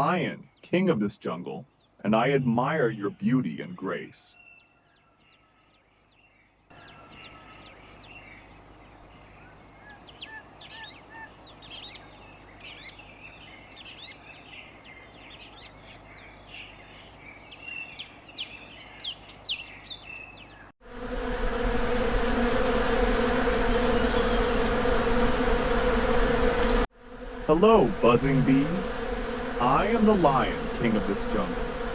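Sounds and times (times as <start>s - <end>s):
birds chirping: 0.0s - 20.8s, 23.7s - 25.3s, 28.0s - 31.6s
bees buzzing: 6.0s - 31.9s.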